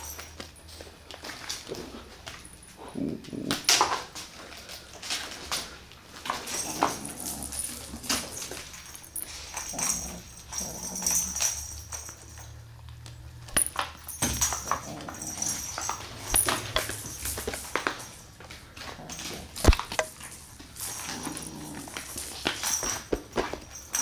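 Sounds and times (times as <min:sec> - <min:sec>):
paws scrabbling on floor: 0:00.0 - 0:13.3, 0:14.4 - 0:24.0
toy rustling: 0:00.0 - 0:24.0.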